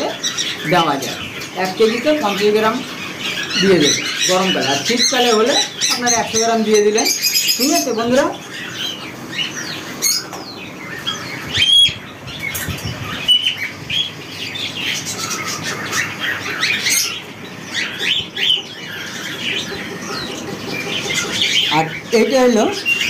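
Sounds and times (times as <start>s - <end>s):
birds chirping and squawking: 0.0s - 23.0s.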